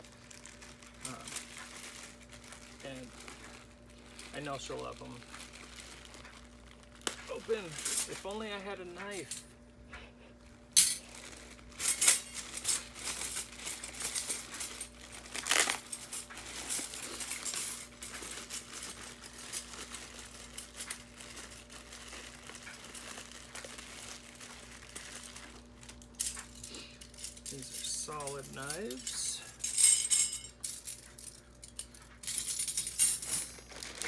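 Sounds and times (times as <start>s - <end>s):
plastic bag crinkling: 0.0s - 9.3s, 10.4s - 29.5s, 33.4s - 34.0s.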